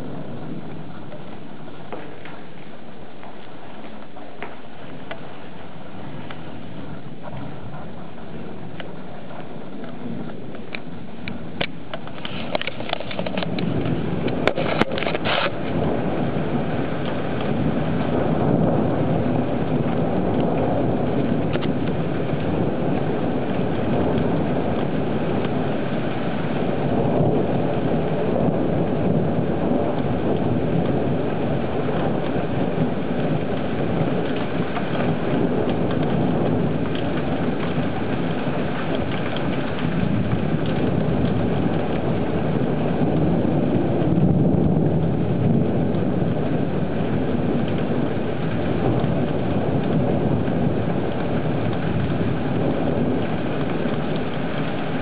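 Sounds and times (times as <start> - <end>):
steady rain falling: 0.0 - 55.0
thunder rumbling: 0.0 - 55.0.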